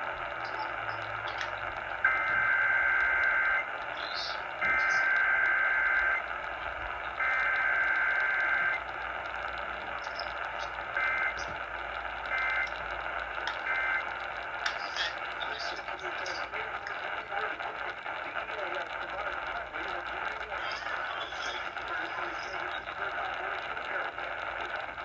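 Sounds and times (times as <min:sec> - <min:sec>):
radio static: 0:00.0 - 0:25.0
digital data bursts: 0:00.2 - 0:06.4, 0:07.0 - 0:08.9, 0:09.7 - 0:24.5.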